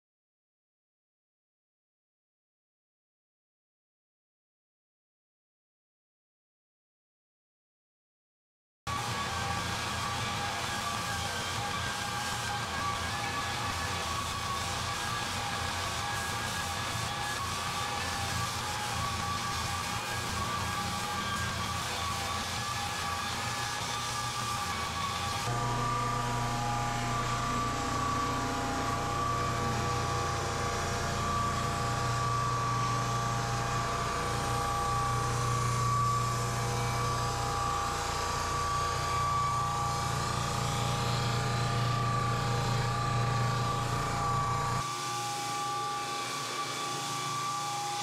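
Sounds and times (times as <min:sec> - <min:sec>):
floor sander motor hum and whine: 0:08.9 - 0:48.0.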